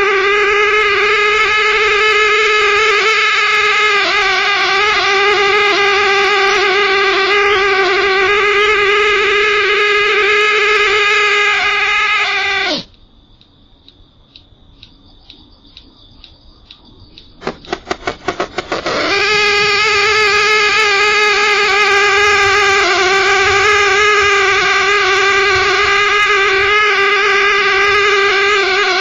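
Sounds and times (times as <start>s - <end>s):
loud pitched drone: 0.0s - 12.9s, 16.8s - 29.0s
faint high whine: 0.0s - 29.0s
soft regular ticking: 0.0s - 29.0s.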